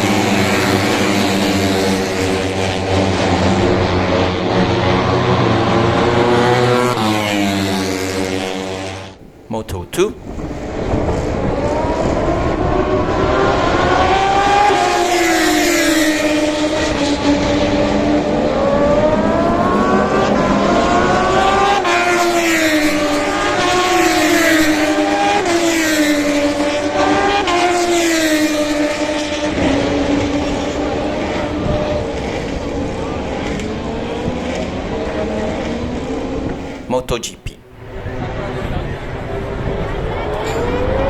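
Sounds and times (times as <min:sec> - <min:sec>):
race motorcycles passing: 0:00.0 - 0:09.4, 0:10.3 - 0:36.8.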